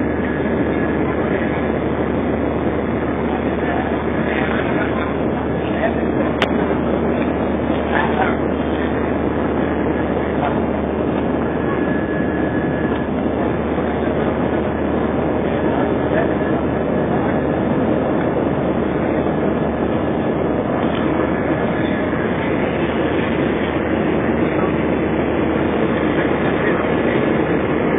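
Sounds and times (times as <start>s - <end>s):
airplane cabin engine rumble: 0.0s - 27.9s.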